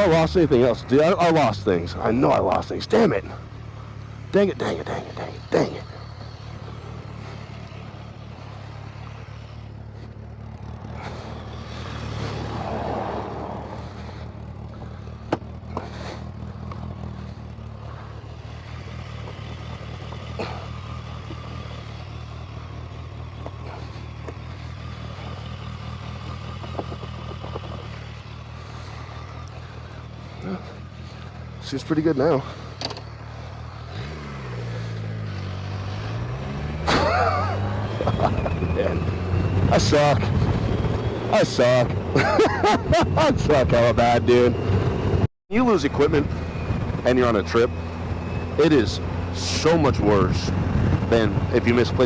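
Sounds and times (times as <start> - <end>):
vehicle engine idling: 0.0 - 52.0
vehicle passing: 0.0 - 52.0.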